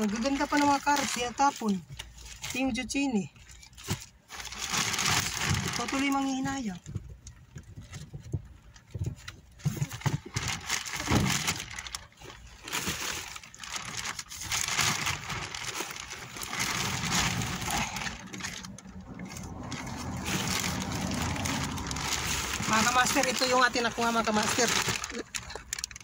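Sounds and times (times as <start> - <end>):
plastic bags rustling: 0.0 - 26.0.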